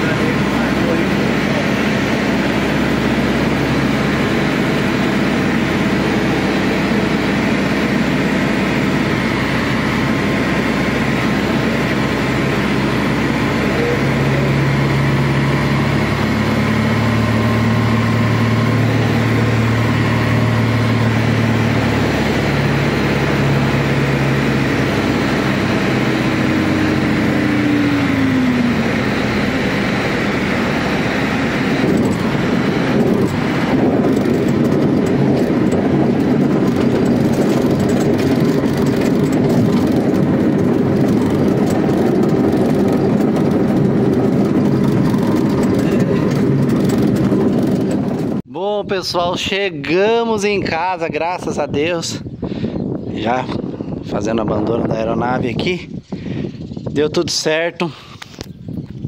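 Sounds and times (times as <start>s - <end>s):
light aircraft engine and propeller: 0.0s - 48.5s.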